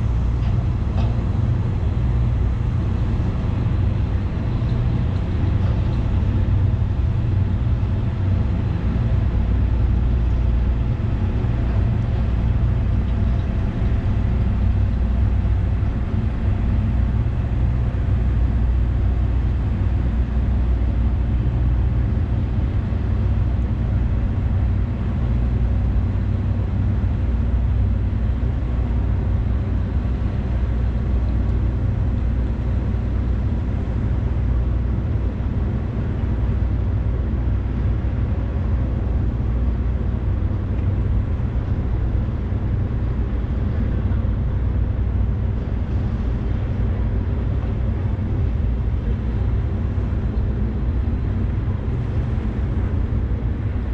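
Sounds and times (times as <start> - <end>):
ship diesel engines rumbling: 0.0 - 53.9.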